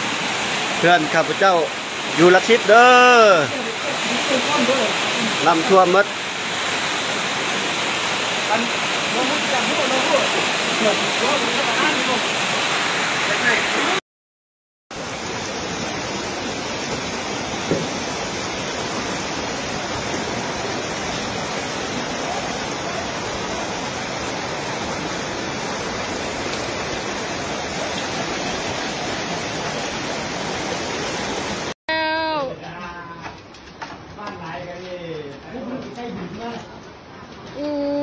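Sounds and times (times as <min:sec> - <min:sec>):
floodwater rushing: 0:00.0 - 0:14.0, 0:14.9 - 0:31.8.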